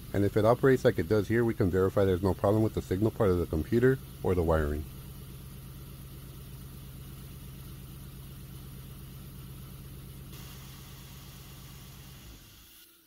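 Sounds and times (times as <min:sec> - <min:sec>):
car engine idling: 0:00.0 - 0:12.3.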